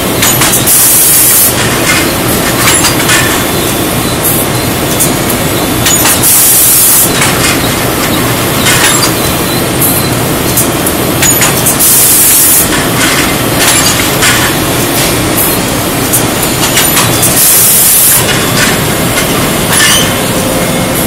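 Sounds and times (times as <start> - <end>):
machinery and conveyor clattering: 0.0 - 21.0.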